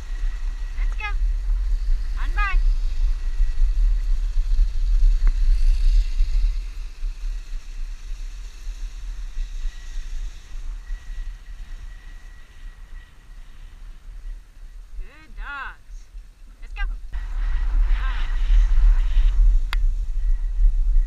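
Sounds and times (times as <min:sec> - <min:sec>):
steady hiss: 0:00.0 - 0:15.2, 0:17.1 - 0:21.0
wind rumbling on microphone: 0:00.0 - 0:21.0.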